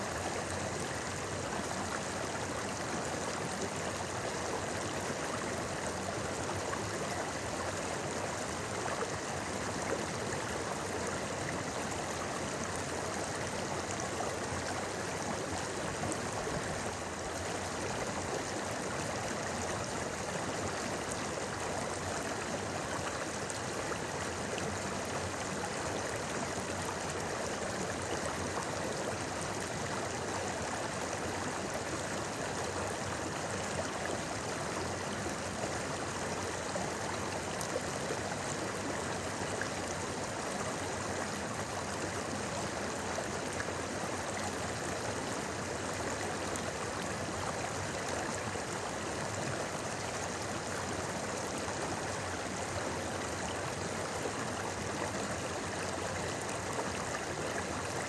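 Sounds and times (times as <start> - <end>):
river babbling over stones: 0.0 - 58.0.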